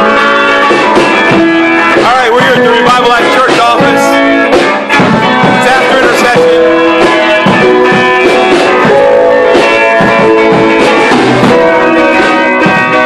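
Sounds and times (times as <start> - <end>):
electronic keyboard playing chords: 0.0 - 13.0.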